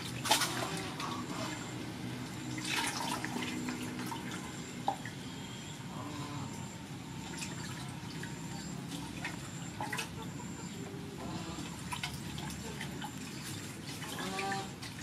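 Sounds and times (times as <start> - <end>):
water dripping and splashing in a basin: 0.0 - 15.0.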